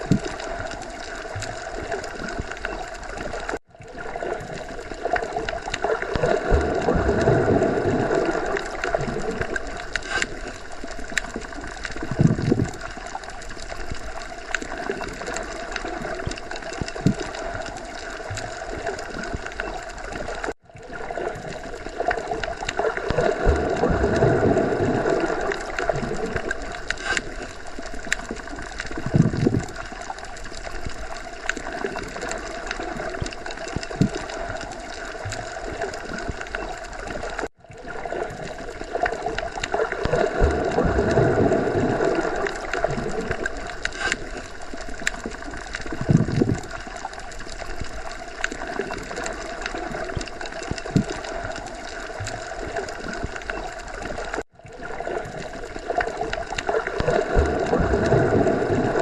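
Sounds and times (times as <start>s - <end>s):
bubbling pops: 0.0s - 10.5s, 11.1s - 13.2s, 13.8s - 30.0s, 30.8s - 47.1s, 47.7s - 59.0s
muffled underwater water wash: 0.0s - 59.0s.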